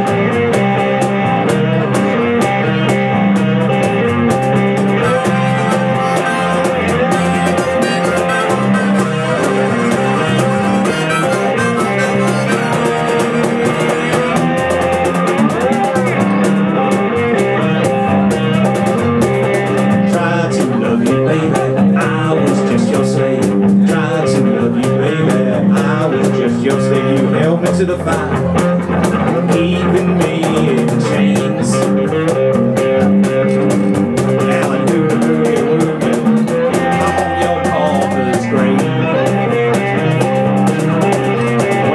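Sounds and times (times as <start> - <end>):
guitar: 0.0 - 41.9
live band playing instrumental: 0.0 - 41.9.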